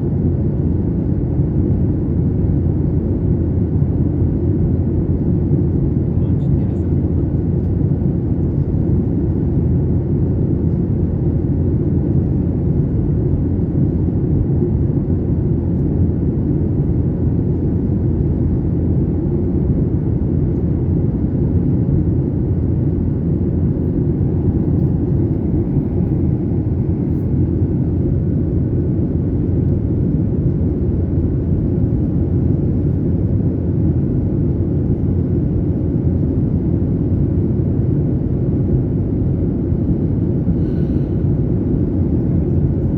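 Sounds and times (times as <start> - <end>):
jet engine cabin rumble: 0.0 - 42.9.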